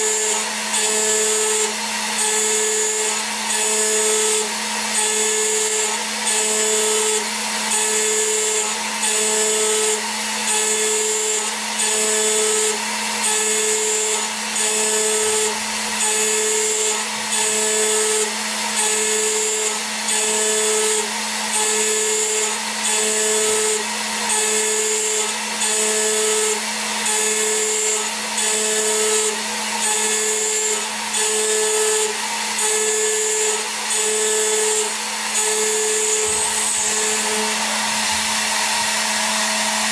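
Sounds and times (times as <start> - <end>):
cutter milling metal: 0.0 - 39.9
mill spindle whine: 0.0 - 39.9.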